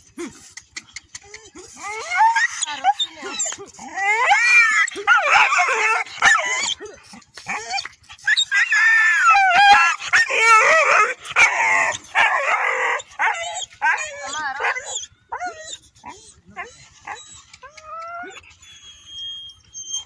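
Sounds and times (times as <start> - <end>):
dogs yipping: 1.1 - 20.0
dogs howling and whining: 1.2 - 20.0.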